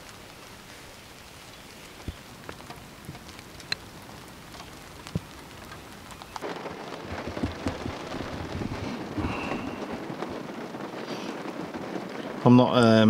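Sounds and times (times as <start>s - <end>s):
rain pattering on a car: 0.0s - 13.0s
scattered raindrops ticking: 0.0s - 13.0s.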